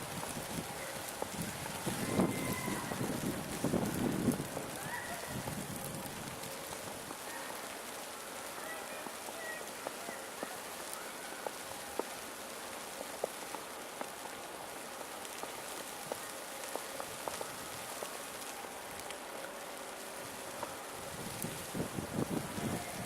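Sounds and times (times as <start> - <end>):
hiss of falling snow: 0.0 - 23.0
light ticks of snowflakes: 0.0 - 23.0.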